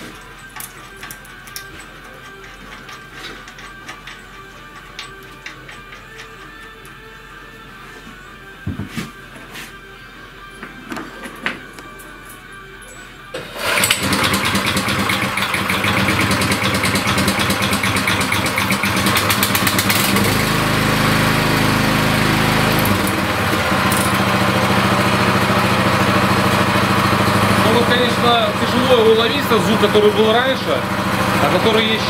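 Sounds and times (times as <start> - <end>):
cultivator engine running: 0.0 - 7.8, 13.4 - 32.0.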